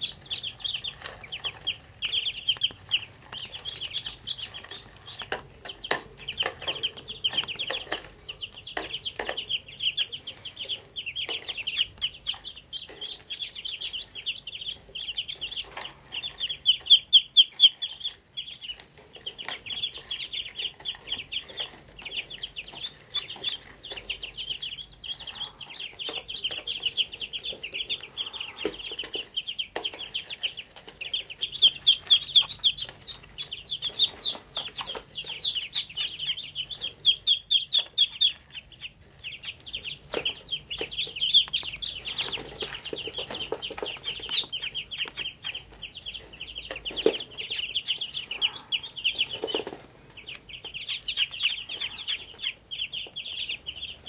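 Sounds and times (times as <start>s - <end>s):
ducklings peeping: 0.0s - 54.0s.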